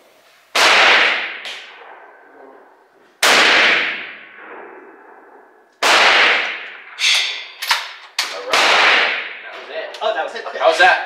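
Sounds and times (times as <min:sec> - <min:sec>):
gunshots with long echo: 0:00.5 - 0:09.6.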